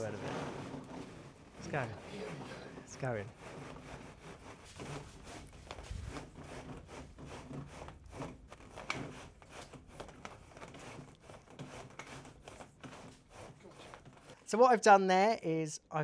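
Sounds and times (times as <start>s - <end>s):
cable scraping through ribbed duct: 0.0s - 14.6s.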